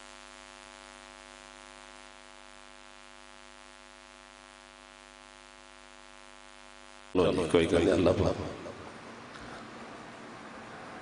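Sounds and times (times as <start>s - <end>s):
faint electrical mains hum: 0.0s - 11.0s
microphone hiss: 0.0s - 11.0s.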